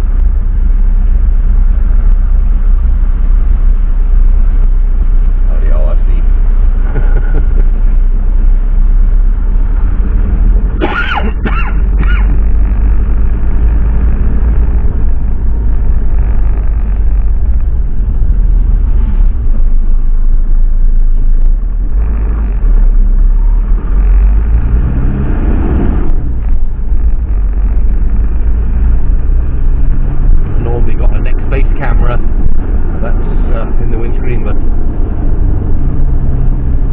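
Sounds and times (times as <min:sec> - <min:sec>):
van engine and road rumble: 0:00.0 - 0:36.9.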